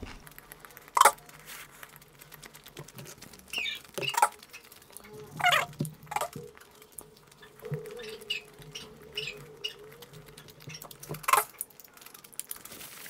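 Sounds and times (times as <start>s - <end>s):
close chewing mouth smacks: 0.1s - 13.0s.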